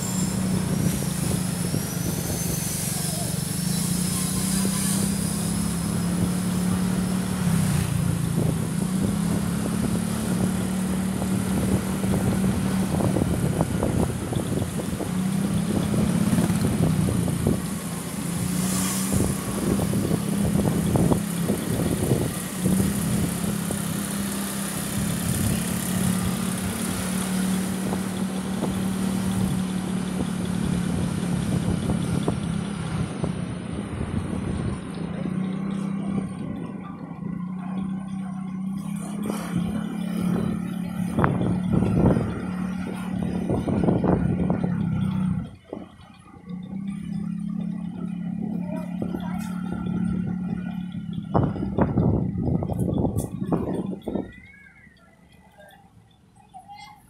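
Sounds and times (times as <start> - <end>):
small motorcycle engine running: 0.0 - 54.3
road and wind noise: 0.0 - 57.0.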